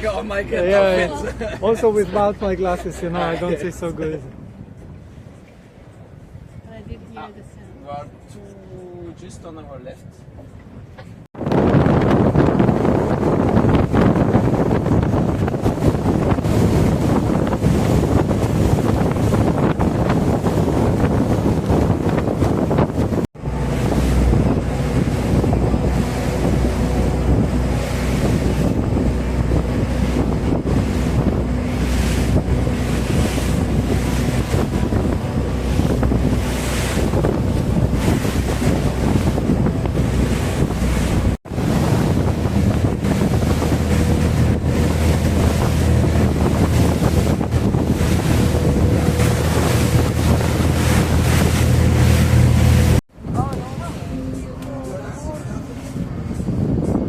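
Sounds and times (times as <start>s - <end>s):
water rushing: 0.0s - 9.9s, 11.4s - 57.0s
low engine hum: 10.0s - 57.0s
wind buffeting microphone: 10.1s - 57.0s.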